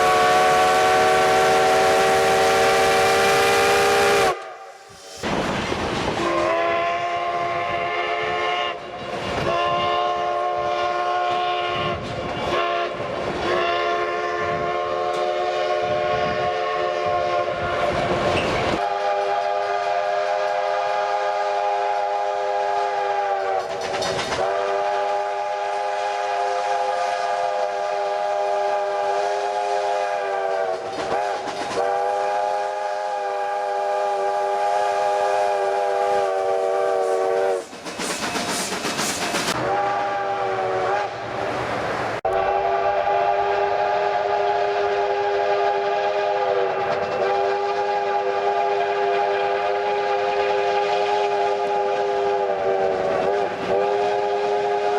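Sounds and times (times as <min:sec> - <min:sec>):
steam locomotive chime whistle: 0:00.0 - 0:05.2, 0:06.2 - 0:23.7, 0:24.4 - 0:41.2, 0:42.3 - 0:54.9
loud steam hiss: 0:00.0 - 0:54.9.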